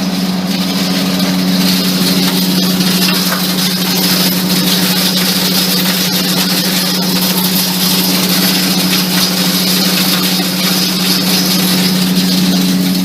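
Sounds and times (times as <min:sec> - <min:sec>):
hammer mill crushing glass: 0:00.0 - 0:13.0.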